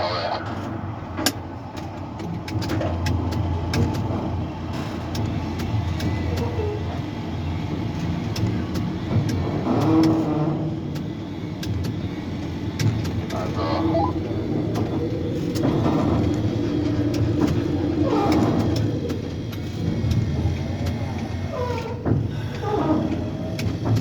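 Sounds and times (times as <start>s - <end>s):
low machinery rumble: 3.1s - 24.0s.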